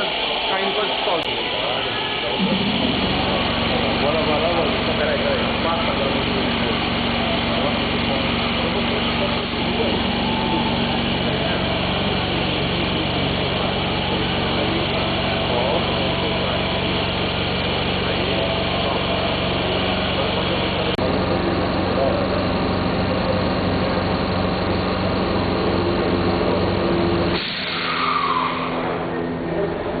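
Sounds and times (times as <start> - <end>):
air compressor humming: 0.0 - 28.1.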